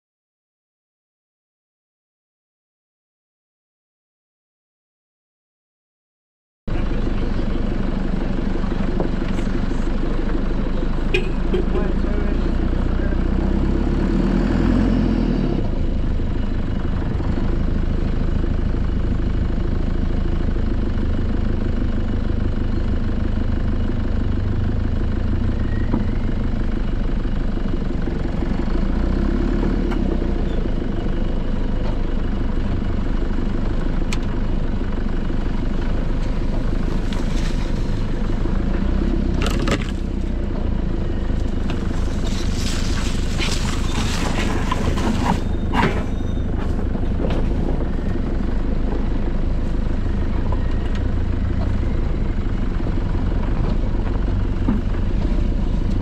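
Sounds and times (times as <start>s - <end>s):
vehicle engine droning: 6.7s - 56.0s.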